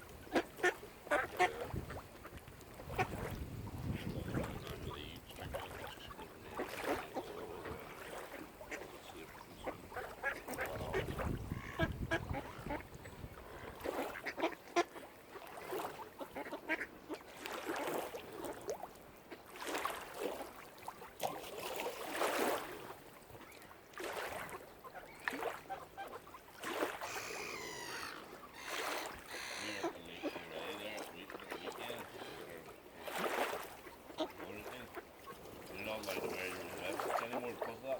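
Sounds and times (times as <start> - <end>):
waterfowl calling: 0.0 - 18.5, 24.2 - 37.9.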